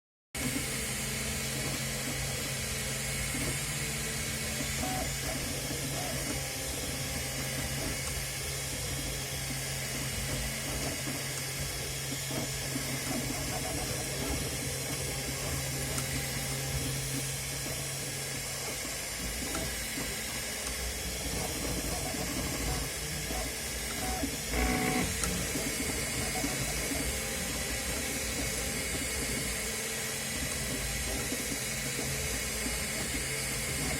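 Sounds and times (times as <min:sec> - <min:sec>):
stepper motors whining: 0:00.5 - 0:33.9.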